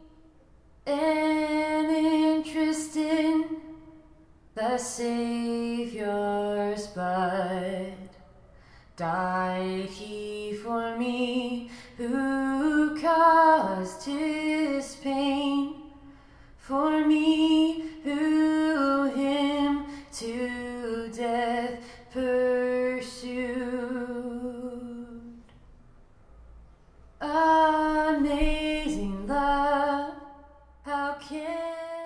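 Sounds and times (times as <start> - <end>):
woman singing a slow hymn: 0.8 - 3.9, 4.5 - 8.2, 9.0 - 25.5, 27.2 - 32.0.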